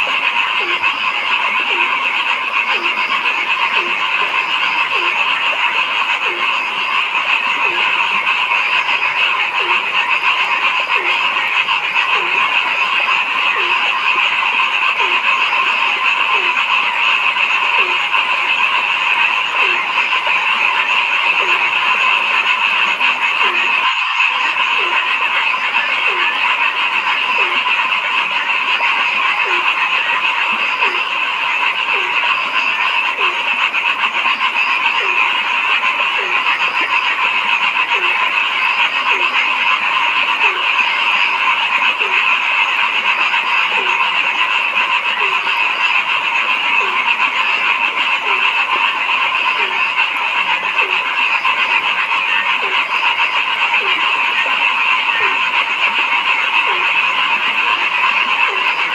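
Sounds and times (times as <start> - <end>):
low-pitched frog croaking: 0.0 - 58.9
night chorus of frogs: 0.0 - 58.9.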